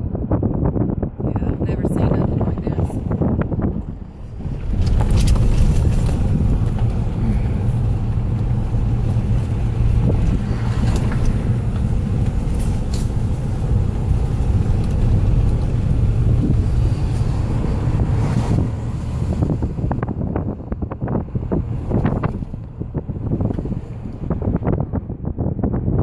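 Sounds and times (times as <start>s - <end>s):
car driving rumble: 0.0s - 26.0s
wind buffeting microphone: 0.0s - 26.0s.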